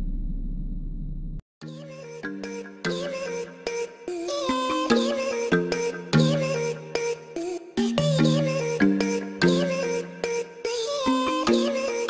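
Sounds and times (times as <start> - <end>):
melodic instrumental music: 1.6 - 12.0.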